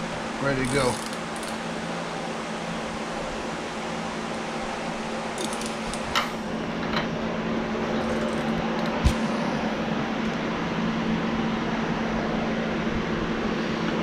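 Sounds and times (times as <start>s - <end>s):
fan-like mechanical hum: 0.0s - 14.0s.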